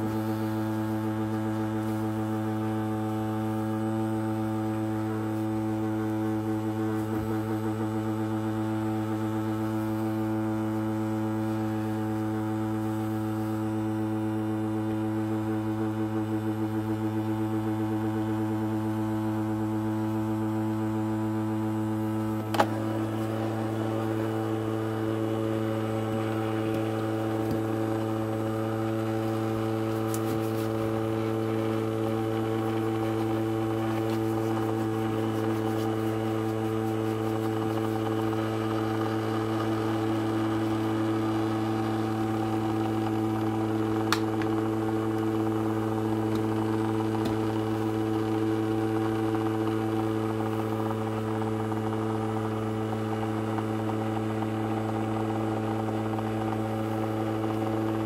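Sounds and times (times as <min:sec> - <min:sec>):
ultrasonic cleaner buzzing hum: 0:00.0 - 0:58.0.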